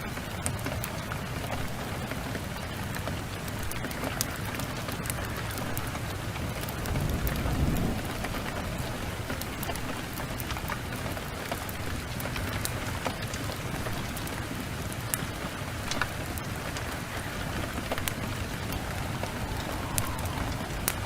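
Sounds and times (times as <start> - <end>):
heavy rain falling: 0.0 - 21.0
sharp ticks of raindrops: 0.0 - 21.0.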